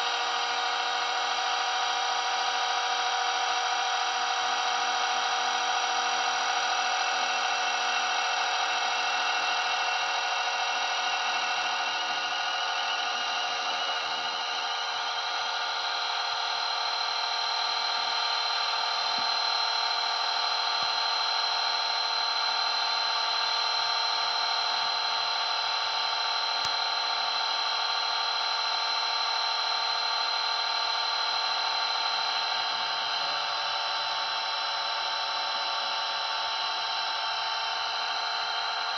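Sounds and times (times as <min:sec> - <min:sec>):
rc helicopter motor and rotor whine: 0:00.0 - 0:38.9.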